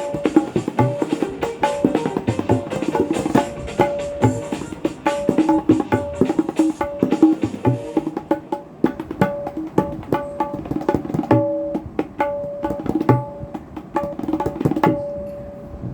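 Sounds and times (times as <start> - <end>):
tabla playing a tune: 0.0 - 15.6.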